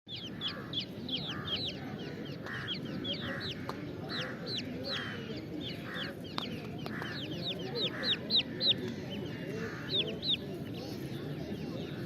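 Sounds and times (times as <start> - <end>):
chicks peeping: 0.1 - 12.0.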